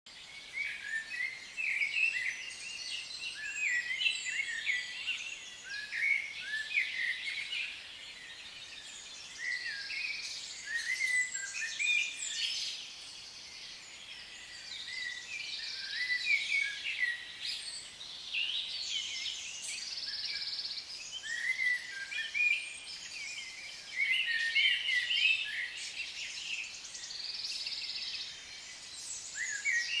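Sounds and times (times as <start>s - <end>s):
birds chirping and trilling: 0.1s - 30.0s.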